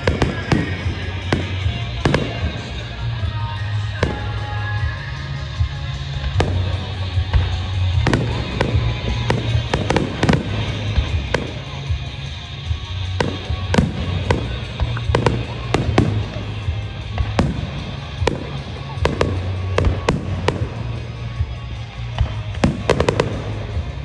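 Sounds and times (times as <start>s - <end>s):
fireworks bangs and crackles: 0.0s - 24.0s
music with heavy bass: 0.0s - 24.0s.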